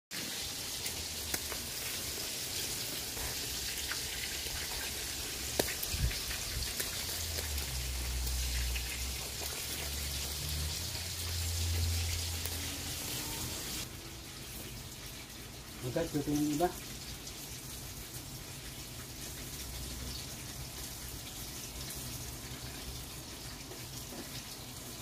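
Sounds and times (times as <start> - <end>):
meat sizzling on a grill: 0.1 - 25.0.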